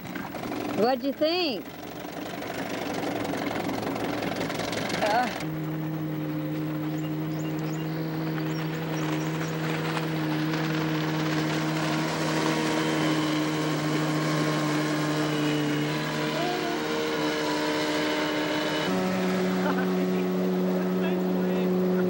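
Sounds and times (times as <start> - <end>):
motorboat engine drone: 0.0 - 22.0.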